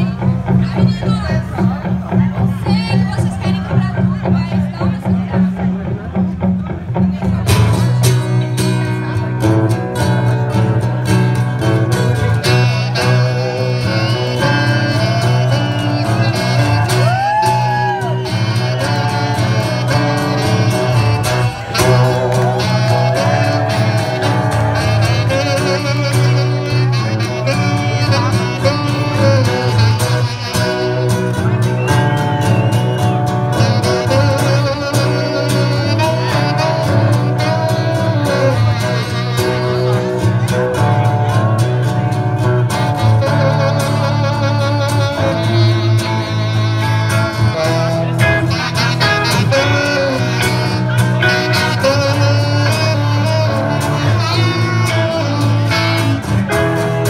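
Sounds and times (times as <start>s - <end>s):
acoustic guitar strumming: 0.0s - 57.0s
electric guitar: 0.0s - 57.0s
alto saxophone melody: 8.0s - 57.0s.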